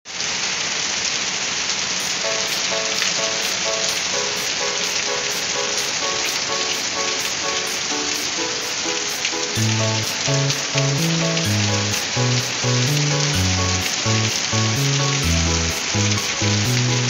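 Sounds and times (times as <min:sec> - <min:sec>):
heavy rain pouring: 0:00.1 - 0:17.0
repeated melody music: 0:02.1 - 0:17.0.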